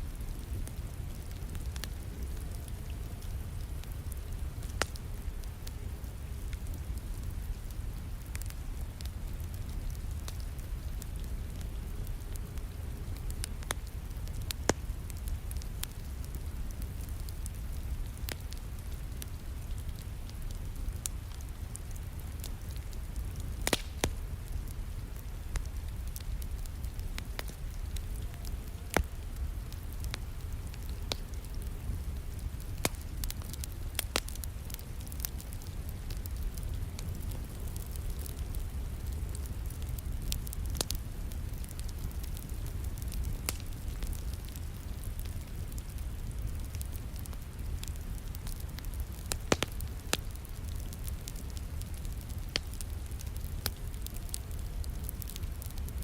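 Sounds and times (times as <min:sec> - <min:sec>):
low rumble of rain: 0:00.0 - 0:56.0
wood fire crackling: 0:00.0 - 0:56.0.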